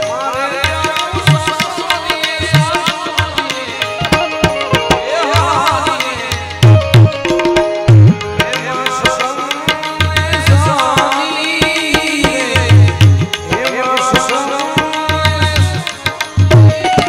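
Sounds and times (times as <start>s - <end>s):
harmonium melody: 0.0s - 17.0s
tabla: 0.0s - 17.0s.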